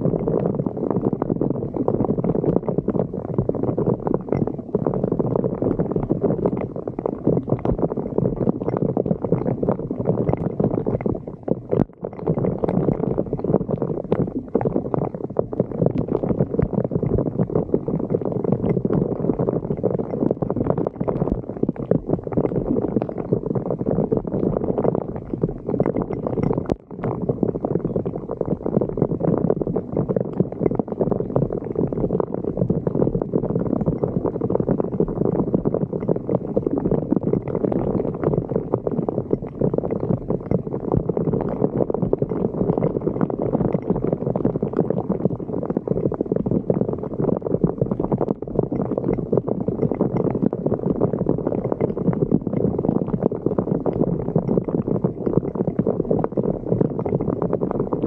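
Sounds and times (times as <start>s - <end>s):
water gurgling down a drain: 0.0s - 58.0s.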